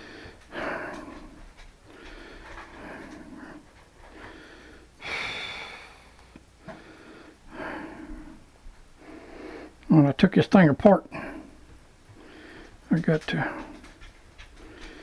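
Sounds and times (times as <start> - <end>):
man breathing heavily: 0.0 - 9.9, 11.0 - 15.0.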